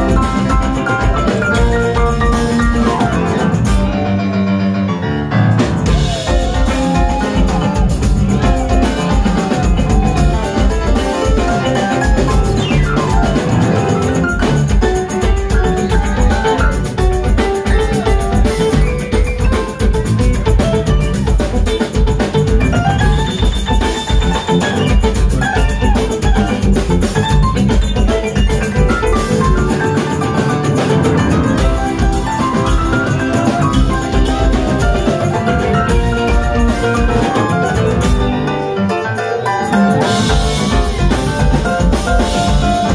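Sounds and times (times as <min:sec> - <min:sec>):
funk band playing: 0:00.0 - 0:42.9.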